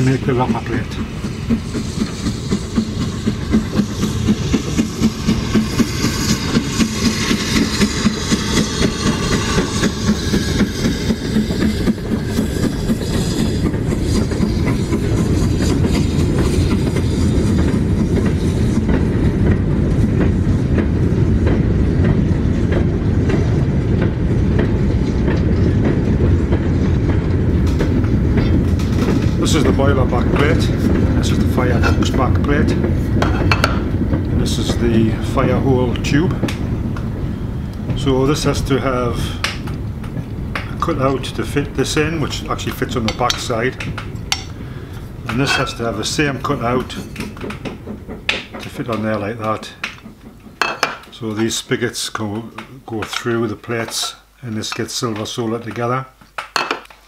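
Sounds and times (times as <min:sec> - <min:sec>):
steam locomotive running on rails: 0:00.0 - 0:56.2.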